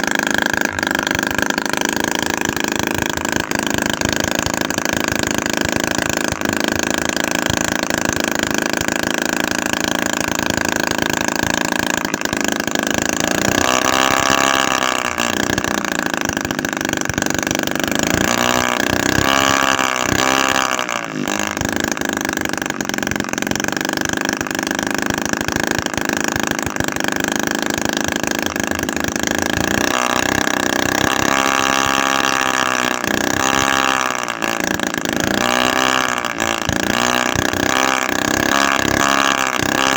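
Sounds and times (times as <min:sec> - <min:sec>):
small two-stroke engine running: 0:00.0 - 0:39.9.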